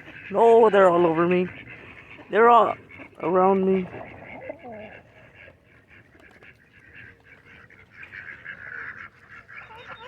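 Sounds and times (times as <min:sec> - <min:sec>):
ducks calling: 0:00.0 - 0:10.0.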